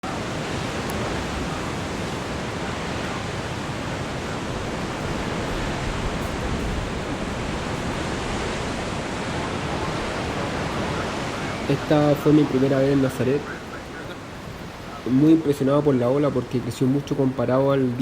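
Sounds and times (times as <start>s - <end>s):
ocean surf roar: 0.0s - 18.0s
wind: 0.0s - 18.0s.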